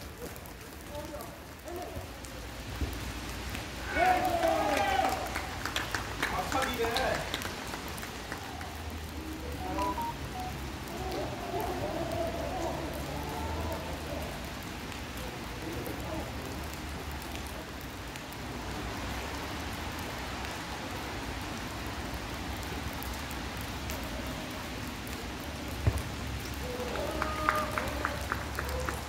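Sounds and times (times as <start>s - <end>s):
steady rain pattering: 0.0s - 29.0s.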